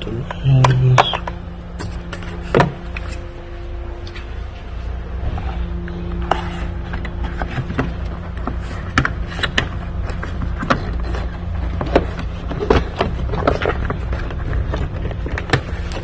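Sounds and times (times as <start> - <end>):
faint hum: 0.0 - 16.0
low rumble: 0.0 - 16.0.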